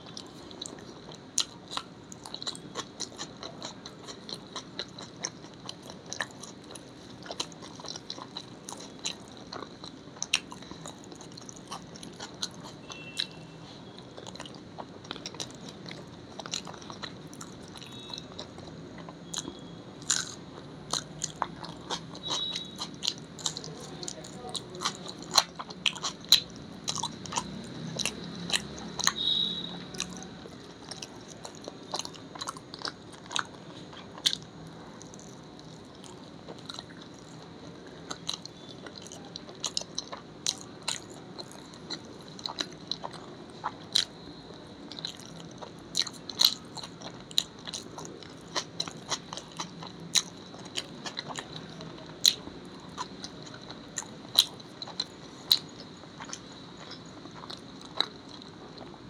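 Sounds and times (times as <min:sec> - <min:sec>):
chewing and biting food: 0:00.0 - 0:59.0.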